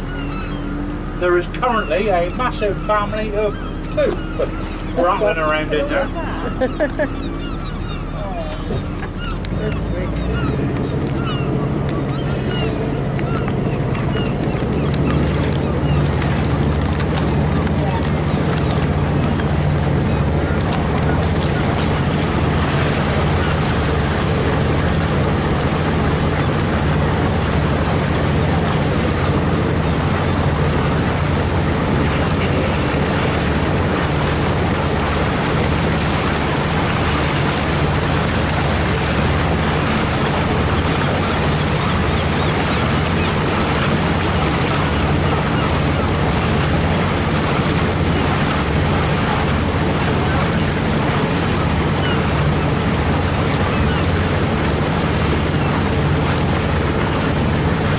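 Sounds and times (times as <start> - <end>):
boat engine running: 0.0 - 57.9
water rushing along hull: 0.0 - 57.9.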